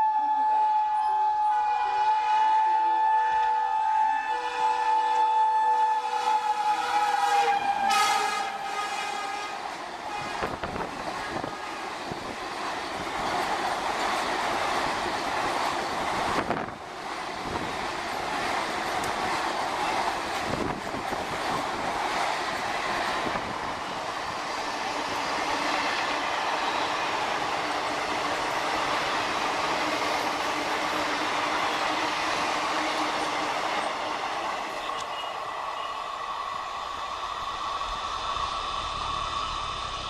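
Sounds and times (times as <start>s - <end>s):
train rushing past: 0.0s - 40.0s.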